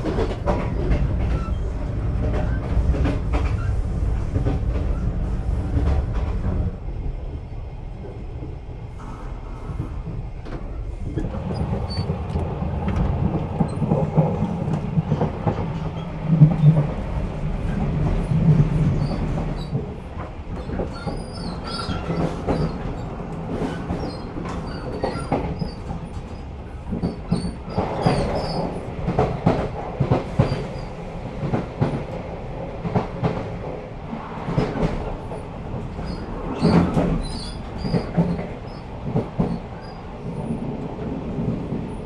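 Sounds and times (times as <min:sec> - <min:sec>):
train car low rumble: 0:00.0 - 0:42.0.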